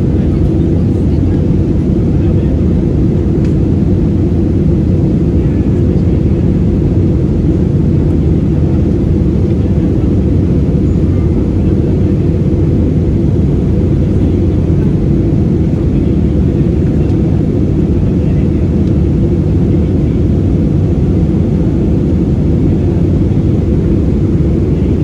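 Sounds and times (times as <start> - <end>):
airplane engines rumbling: 0.0 - 25.0.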